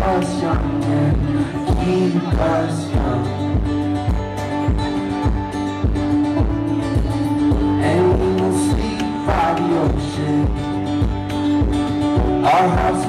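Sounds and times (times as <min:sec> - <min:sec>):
acoustic guitars strumming: 0:00.0 - 0:13.0.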